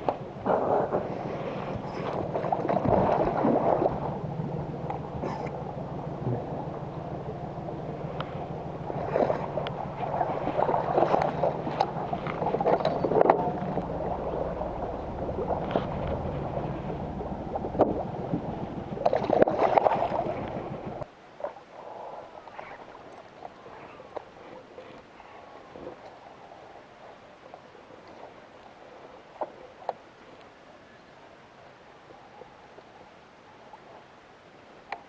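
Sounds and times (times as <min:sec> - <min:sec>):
low hum: 0:00.0 - 0:35.0
water sloshing against boat: 0:00.0 - 0:35.0.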